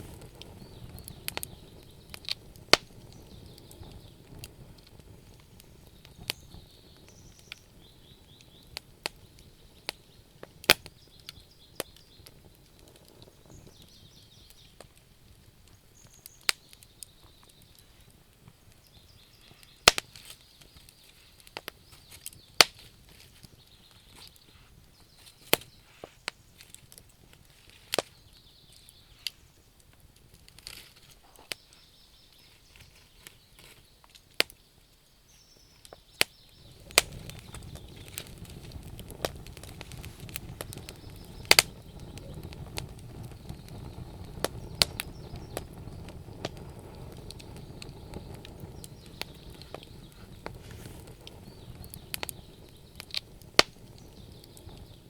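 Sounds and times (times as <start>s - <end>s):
burning wood popping: 0.0s - 55.0s
low noise of burning: 0.0s - 55.0s
wood fire crackling: 0.0s - 55.0s.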